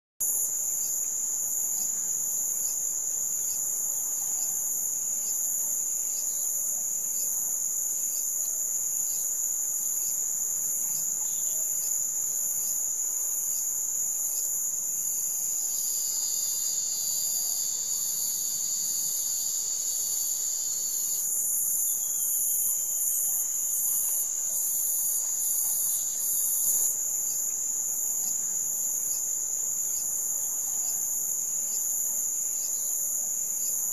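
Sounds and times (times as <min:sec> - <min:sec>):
insect chorus: 0:00.2 - 0:33.9.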